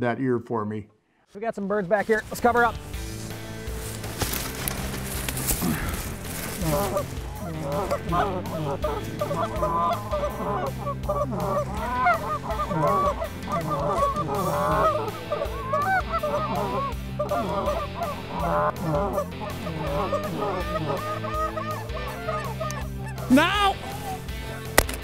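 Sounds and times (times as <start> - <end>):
geese honking and clucking: 2.0 - 25.0.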